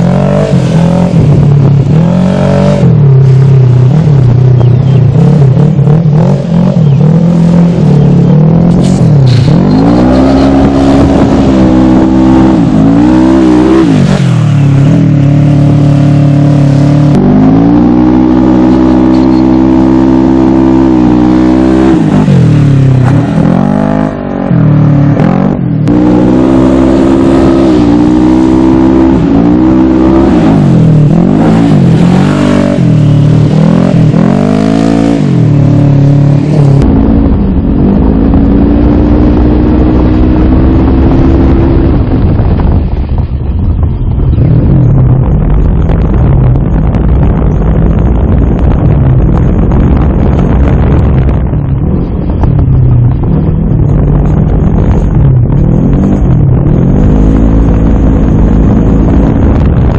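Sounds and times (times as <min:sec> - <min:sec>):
off-road vehicle engine revving: 0:00.0 - 0:42.8, 0:53.0 - 0:59.9
wind buffeting microphone: 0:00.3 - 0:59.9.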